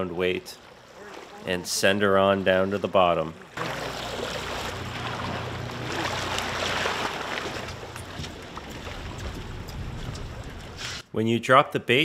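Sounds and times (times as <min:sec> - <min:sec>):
boat engines humming: 0:00.0 - 0:11.0
water splashing past hull: 0:00.0 - 0:11.0.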